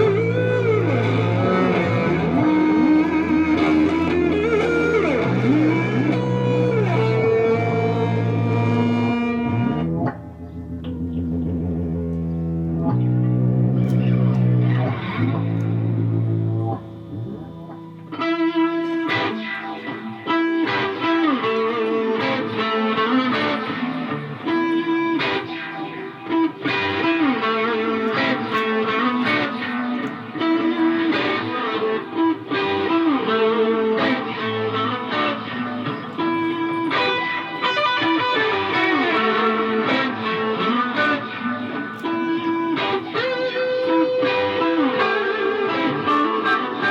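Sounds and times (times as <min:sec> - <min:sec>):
low held notes: 0:00.0 - 0:46.9
quickly picked melody: 0:00.0 - 0:46.9.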